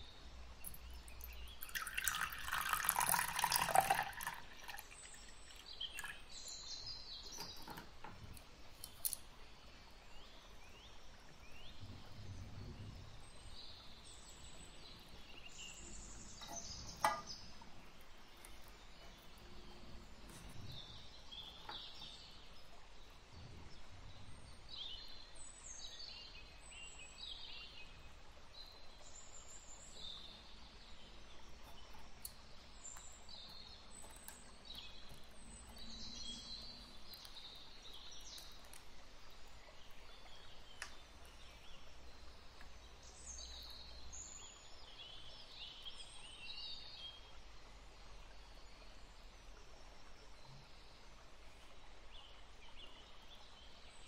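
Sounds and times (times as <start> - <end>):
low steady hiss: 0.0 - 54.0
small birds chirping and singing: 0.0 - 54.0.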